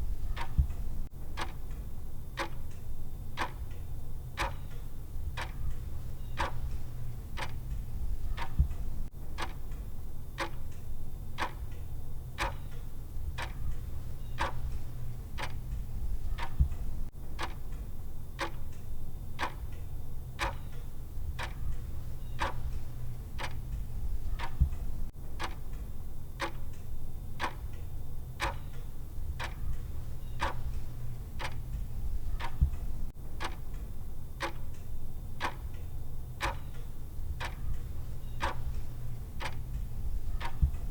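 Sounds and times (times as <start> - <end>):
clock ticking: 0.0 - 9.8, 10.4 - 10.8, 11.4 - 11.8, 12.4 - 17.8, 18.4 - 18.8, 19.4 - 19.8, 20.4 - 25.8, 26.4 - 40.9.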